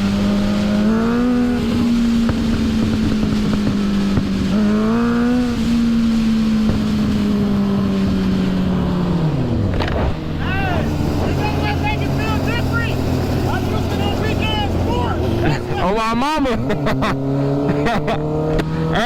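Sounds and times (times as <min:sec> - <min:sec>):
wind rush: 0:00.0 - 0:15.8
motorcycle engine cruising: 0:00.0 - 0:19.0.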